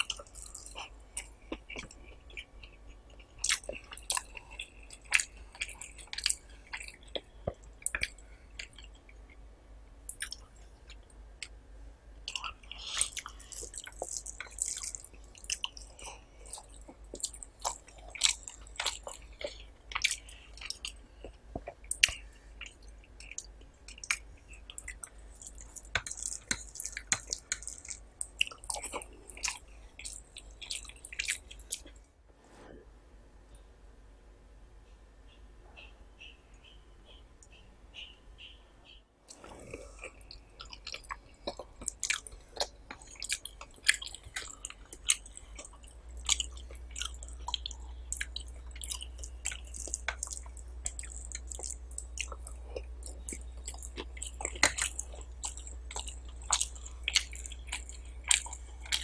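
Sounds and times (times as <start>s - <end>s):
person chewing with wet smacks: 0.0s - 9.4s, 10.1s - 11.6s, 12.2s - 32.0s, 39.3s - 59.0s.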